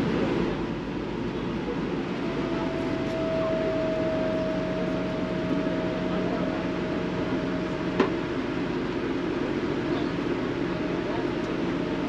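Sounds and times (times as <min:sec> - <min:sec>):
engine and water rushing: 0:00.0 - 0:12.0
low hum: 0:00.4 - 0:12.0
steady high tone: 0:02.0 - 0:12.0.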